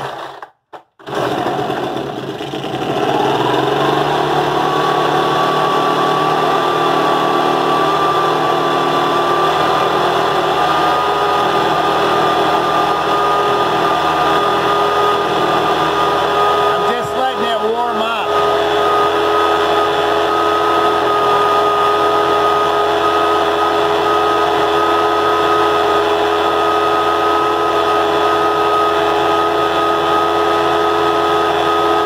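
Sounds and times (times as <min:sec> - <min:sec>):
leaf blower engine running: 0:01.0 - 0:32.0.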